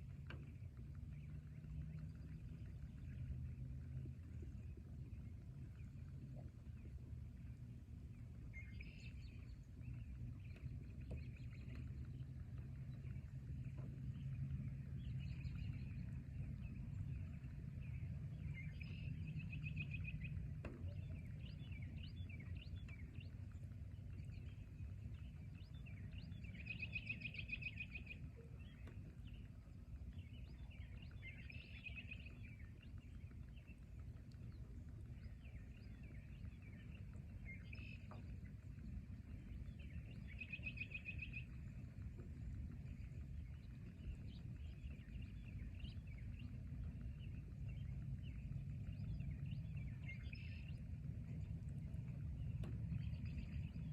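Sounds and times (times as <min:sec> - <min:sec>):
low steady rumble: 0:00.0 - 0:53.9
bird chirps: 0:08.4 - 0:53.9.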